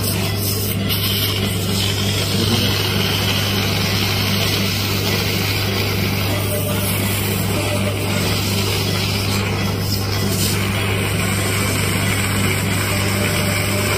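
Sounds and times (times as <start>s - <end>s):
low machine hum: 0.0s - 13.9s.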